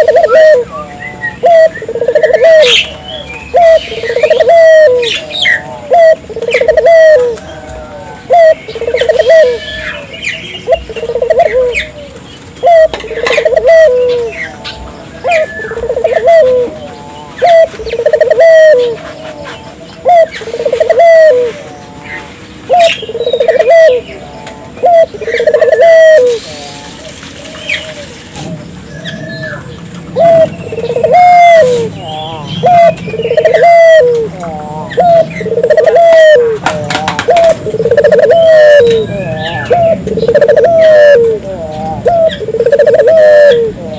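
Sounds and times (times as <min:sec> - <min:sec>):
dove cooing: 0:00.0 - 0:43.9
small birds chirping: 0:00.0 - 0:43.9.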